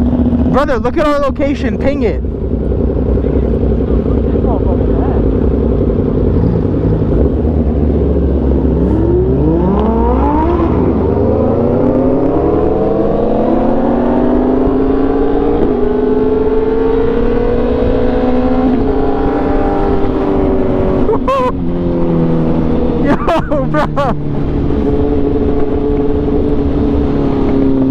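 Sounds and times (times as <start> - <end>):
motorbike engine accelerating: 0.0 - 27.9.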